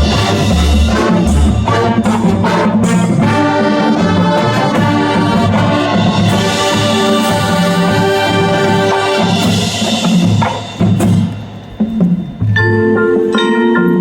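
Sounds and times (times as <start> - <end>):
brass sustained chords: 0.0 - 13.0
marching band playing: 0.0 - 13.2
percussion hits: 0.0 - 13.7.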